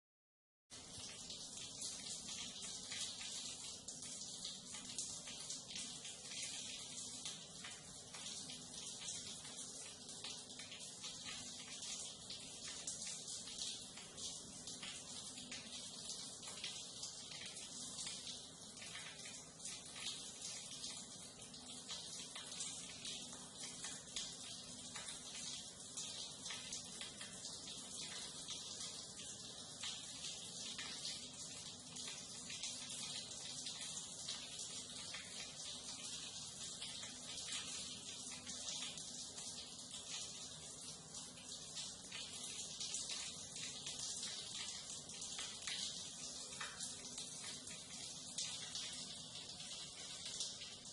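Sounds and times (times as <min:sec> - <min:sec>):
water running in a drain: 0:00.7 - 0:50.9.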